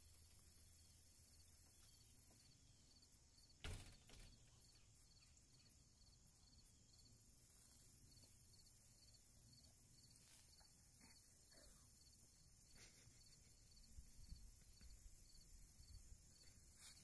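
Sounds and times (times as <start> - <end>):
insect chirps: 0.0 - 17.0.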